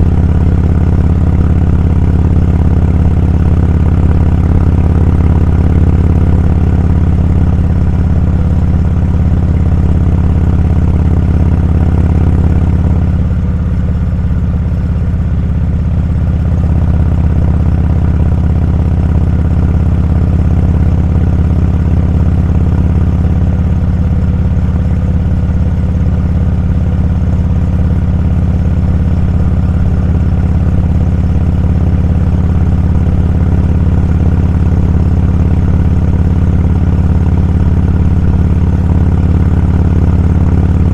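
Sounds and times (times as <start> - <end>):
motorcycle engine droning: 0.0 - 40.9.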